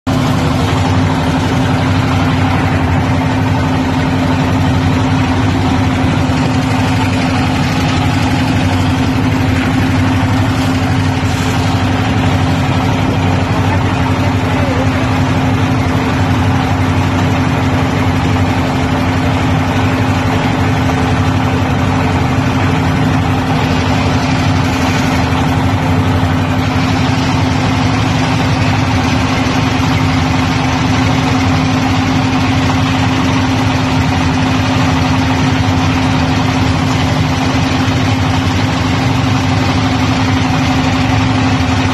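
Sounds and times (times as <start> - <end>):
boat engine droning: 0.1 - 41.9.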